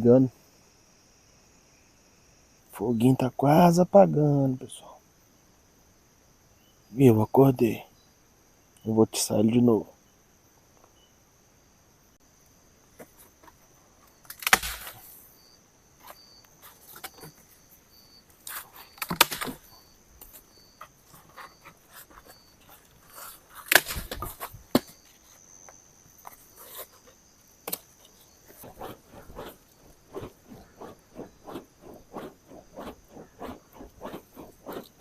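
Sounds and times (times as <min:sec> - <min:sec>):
insects buzzing: 0:00.0 - 0:35.0.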